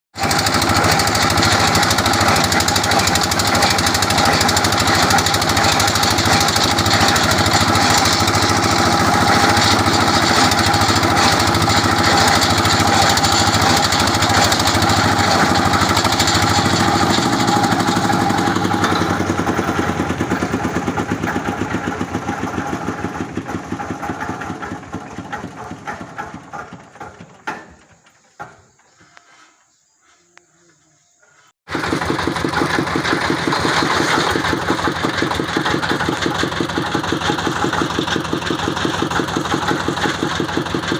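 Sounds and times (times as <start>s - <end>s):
drilling rig engine running down: 0.2s - 28.6s, 31.7s - 40.9s.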